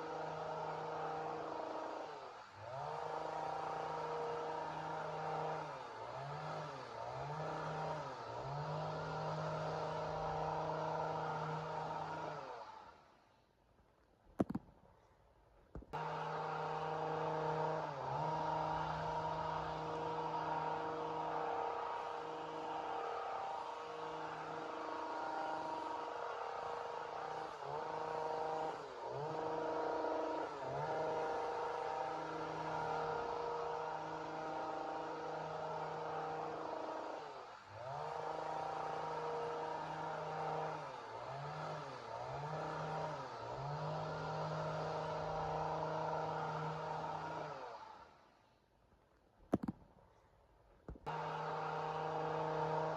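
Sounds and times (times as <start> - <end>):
chainsaw engine at high revs: 0.0 - 13.2, 15.9 - 48.3, 51.0 - 52.9.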